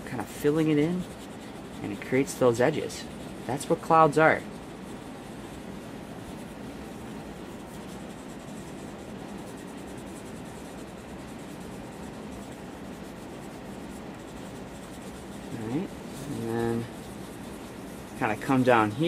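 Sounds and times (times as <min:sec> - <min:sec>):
pencil scratching on paper: 0:00.0 - 0:19.0.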